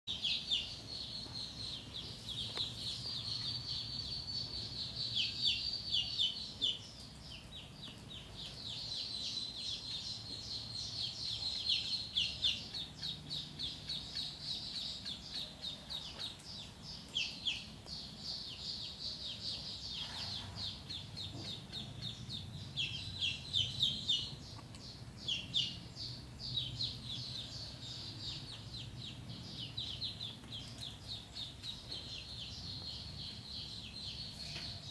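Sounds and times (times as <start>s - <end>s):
ducklings peeping: 0.1s - 34.9s.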